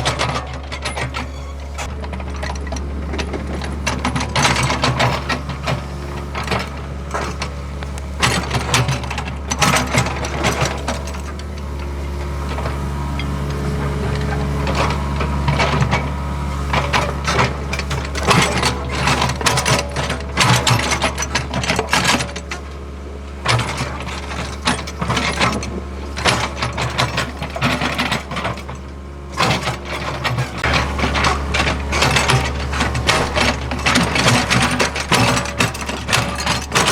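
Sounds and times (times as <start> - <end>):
metal knocks and rattles: 0.0 - 22.7, 23.4 - 36.9
excavator diesel engine droning: 0.0 - 36.9.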